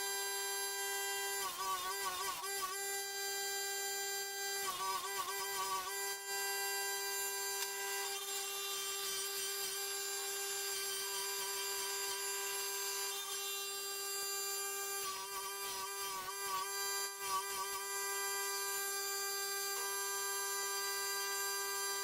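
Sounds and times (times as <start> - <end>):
power tool motor running: 0.0 - 22.0.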